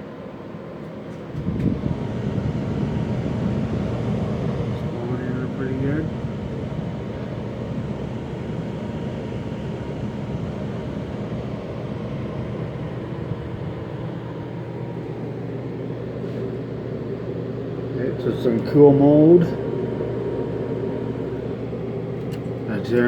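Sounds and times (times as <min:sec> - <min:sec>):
air conditioner fan humming: 0:00.0 - 0:23.0.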